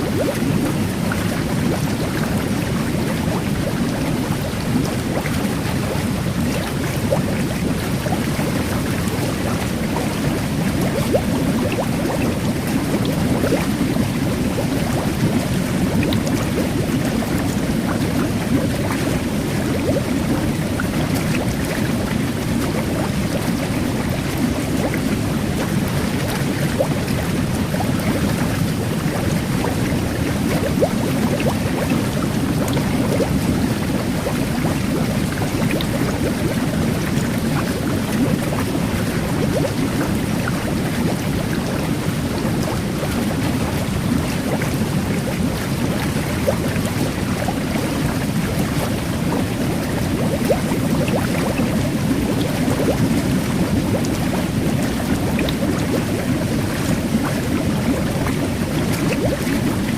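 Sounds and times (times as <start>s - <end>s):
fizzing bubbles: 0.0s - 59.9s
jet bath churning water: 0.0s - 59.9s.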